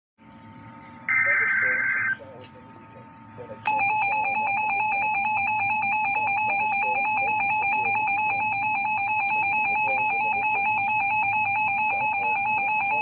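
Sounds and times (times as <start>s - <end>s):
two-tone alarm: 1.1s - 2.2s, 3.6s - 13.0s.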